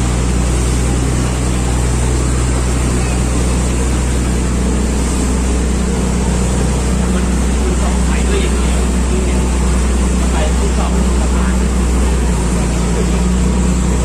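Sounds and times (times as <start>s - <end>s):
boat engine droning: 0.0s - 14.0s
rushing water noise: 0.0s - 14.0s.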